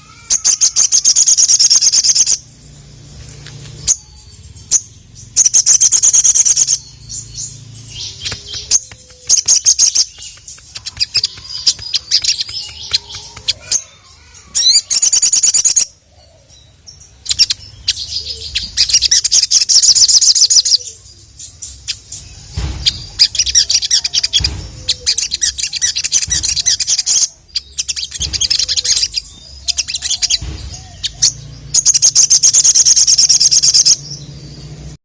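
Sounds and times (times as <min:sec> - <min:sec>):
bird trilling: 0:00.0 - 0:02.6, 0:03.8 - 0:21.1, 0:21.8 - 0:34.3
bird chirps: 0:00.0 - 0:35.0.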